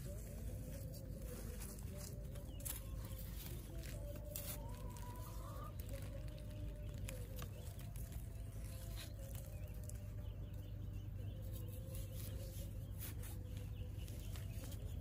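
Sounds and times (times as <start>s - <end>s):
knife scraping soil: 0.0s - 10.1s, 11.2s - 15.0s
steady low hum: 0.0s - 15.0s.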